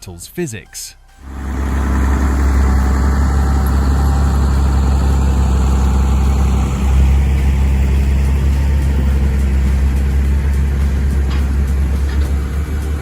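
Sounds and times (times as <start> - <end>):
diesel engine droning: 1.1 - 13.0.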